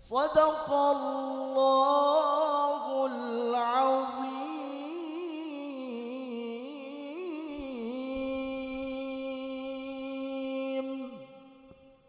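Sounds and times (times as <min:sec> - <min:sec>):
man reciting melodically: 0:00.0 - 0:11.7.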